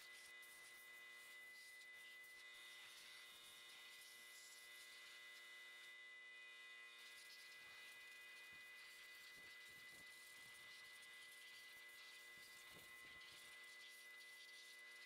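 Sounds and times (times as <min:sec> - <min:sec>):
thin high whine: 0:00.0 - 0:15.0.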